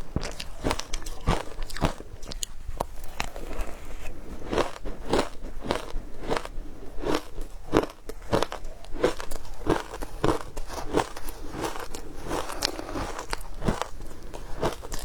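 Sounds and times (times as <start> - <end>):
crunching of frozen ice: 0.2 - 15.0.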